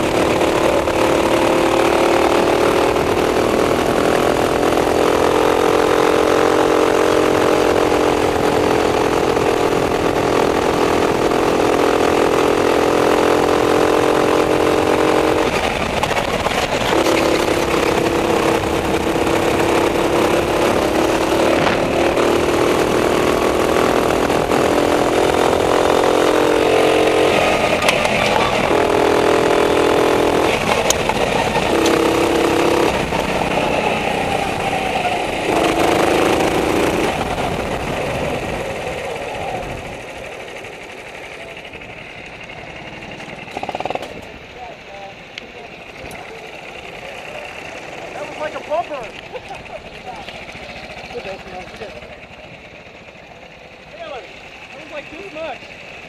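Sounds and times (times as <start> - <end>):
kart engine buzzing at high revs: 0.0 - 44.4, 45.0 - 56.0.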